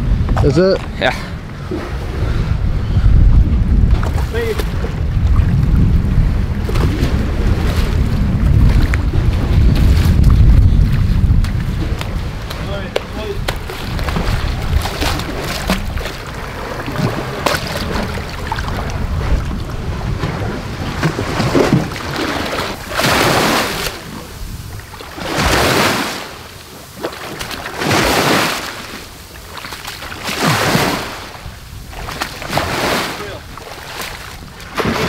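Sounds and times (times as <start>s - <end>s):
wind rumbling on microphone: 0.0s - 35.0s
water splashing: 3.8s - 35.0s
small waves on sandy shore: 3.9s - 35.0s.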